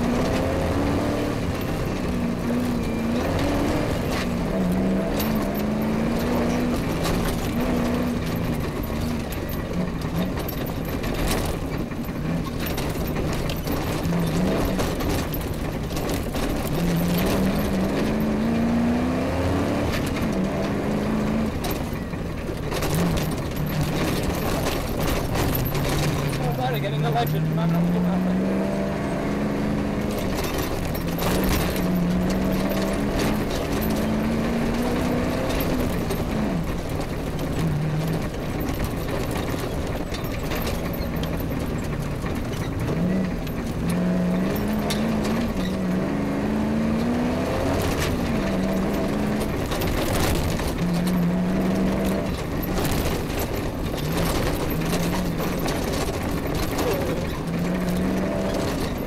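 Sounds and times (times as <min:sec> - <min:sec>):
rally car engine working hard: 0:00.0 - 0:59.0
sharp knocks and rattles: 0:00.0 - 0:59.0.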